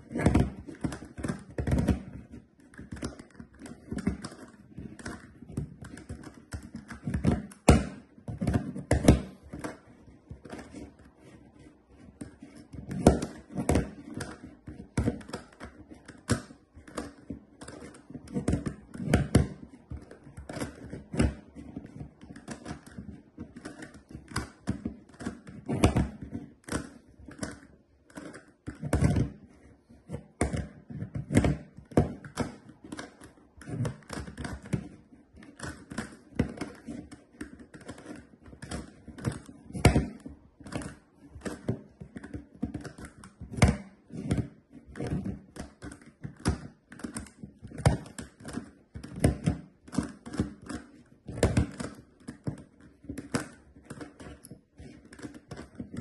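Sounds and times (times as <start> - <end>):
plastic puzzle clicking: 0.0 - 56.0.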